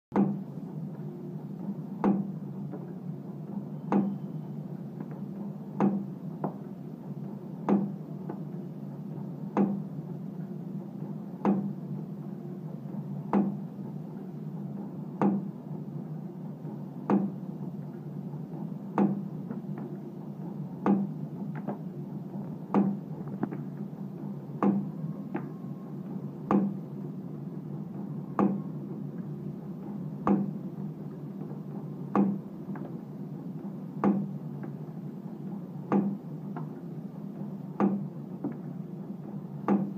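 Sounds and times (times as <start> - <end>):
low machine hum: 0.1 - 39.9.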